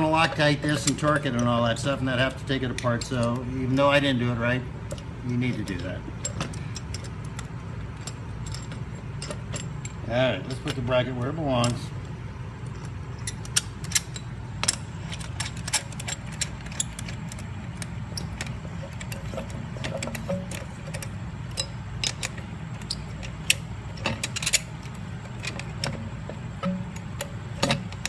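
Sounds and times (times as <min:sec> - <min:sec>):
steady low hum: 0:00.0 - 0:28.0
metallic clicks of bolts and tools: 0:00.2 - 0:04.1, 0:04.8 - 0:28.0.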